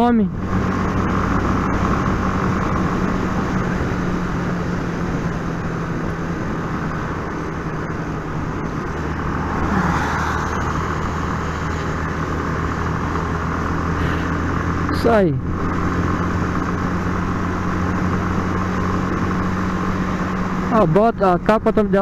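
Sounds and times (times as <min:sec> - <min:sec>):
motorcycle engine running: 0:00.0 - 0:22.0
wind and wet-road rushing: 0:00.0 - 0:22.0.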